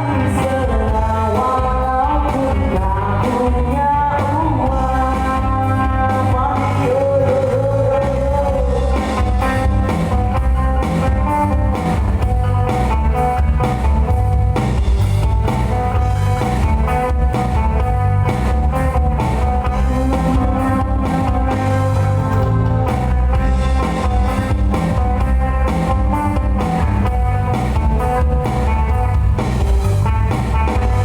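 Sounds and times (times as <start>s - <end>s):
bass: 0.0s - 31.0s
guitar: 0.0s - 31.0s
instrumental band music: 0.0s - 31.0s
steady drum beat: 0.7s - 31.0s.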